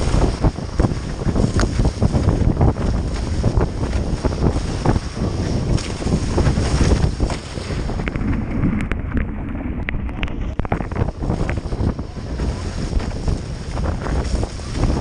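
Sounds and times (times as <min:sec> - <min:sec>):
water rushing past hulls: 0:00.0 - 0:15.0
wind buffeting microphone: 0:00.0 - 0:15.0.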